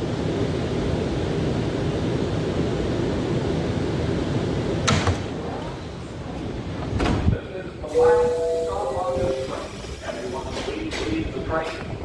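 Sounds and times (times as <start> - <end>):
subway car rumbling: 0.0 - 12.0.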